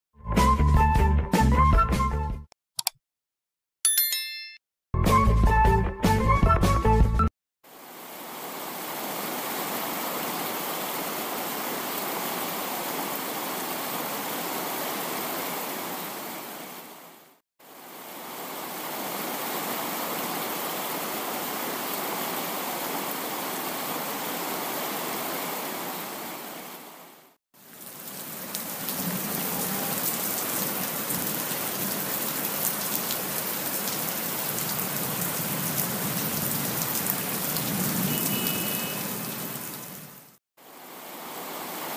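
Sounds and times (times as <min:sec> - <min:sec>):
steady rain falling: 0:07.7 - 0:41.9.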